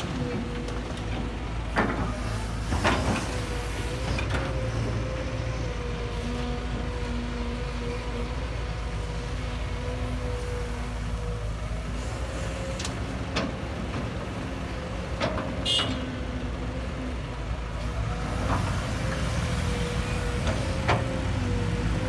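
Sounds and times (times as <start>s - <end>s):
excavator diesel rumble: 0.0s - 22.0s.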